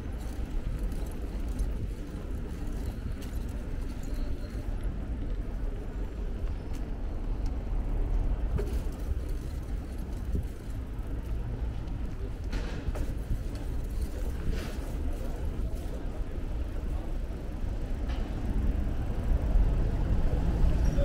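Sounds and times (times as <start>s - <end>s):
bicycle tyres rumbling on paving: 0.0s - 21.0s.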